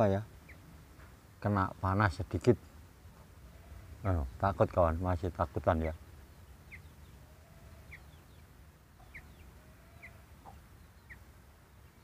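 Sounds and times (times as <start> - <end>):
low drawn-out bird calls: 0.0 - 12.0.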